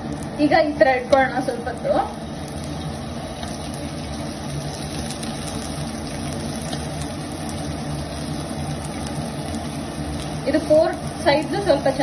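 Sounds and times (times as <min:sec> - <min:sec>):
meat sizzling in oil: 0:00.0 - 0:12.0
oil spatter ticks: 0:01.0 - 0:12.0.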